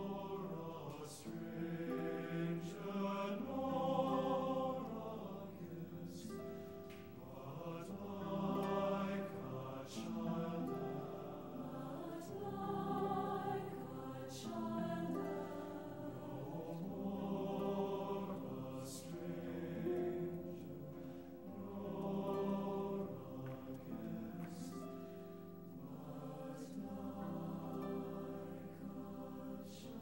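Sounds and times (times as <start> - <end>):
choir singing slow chords: 0.0 - 30.0.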